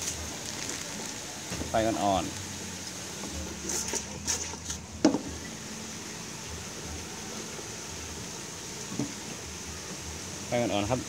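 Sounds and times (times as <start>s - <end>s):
food hissing in a pot: 0.0s - 11.0s.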